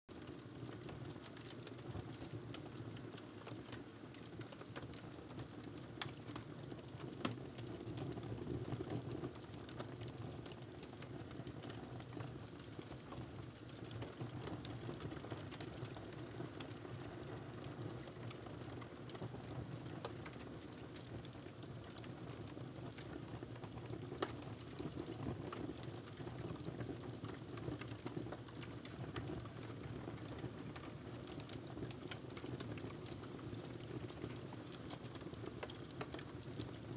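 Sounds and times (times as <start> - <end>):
wood fire crackling: 0.2 - 36.9.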